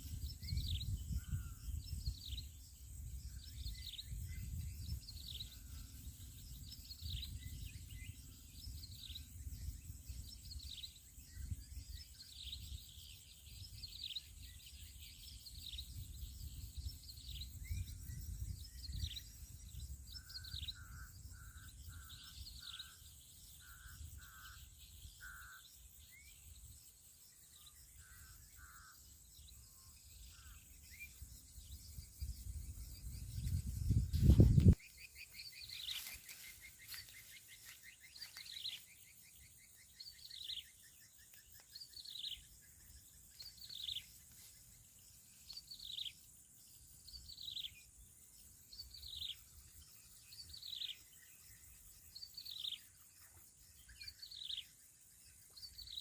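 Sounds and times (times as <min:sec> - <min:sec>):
bird chirping: 0:00.0 - 0:56.0
insect hum: 0:00.0 - 0:56.0.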